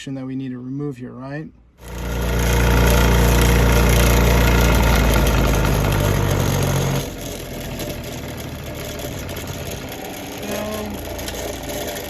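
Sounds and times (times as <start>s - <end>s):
electric grinding wheel running: 1.8s - 12.0s.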